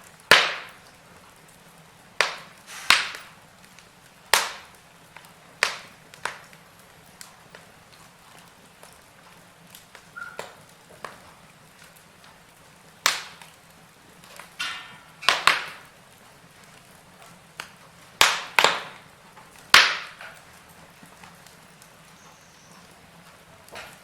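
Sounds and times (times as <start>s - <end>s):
faint steady hiss: 0.0s - 24.0s
wood fire crackling and popping: 0.0s - 24.0s.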